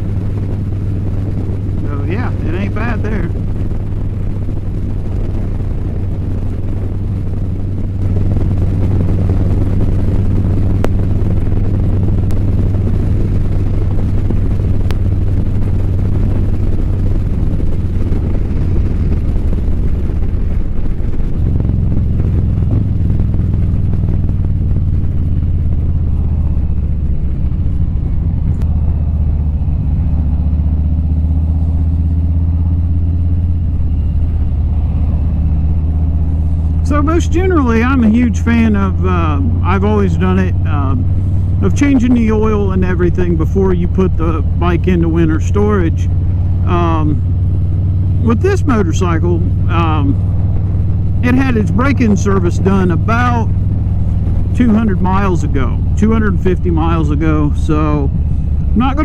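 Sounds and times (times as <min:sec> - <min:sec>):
wind rushing: 0:00.0 - 0:43.4, 0:46.0 - 0:59.0
motorcycle engine running: 0:00.0 - 0:59.0.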